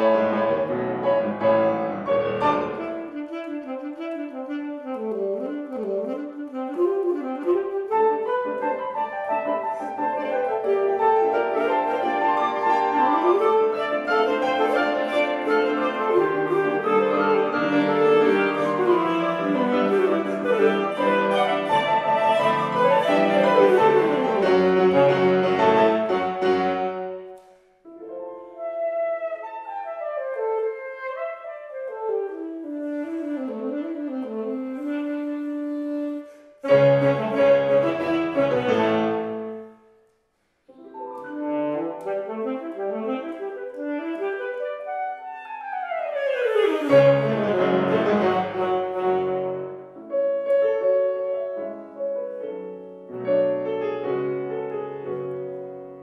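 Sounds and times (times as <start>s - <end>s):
grand piano: 0.0s - 56.0s
saxophone: 1.4s - 40.0s, 40.7s - 56.0s.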